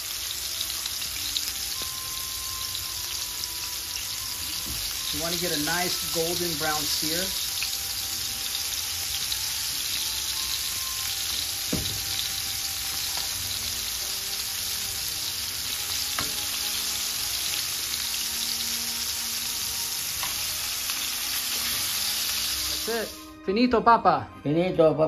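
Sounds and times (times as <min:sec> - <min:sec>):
meatballs sizzling in oil: 0:00.0 - 0:23.3.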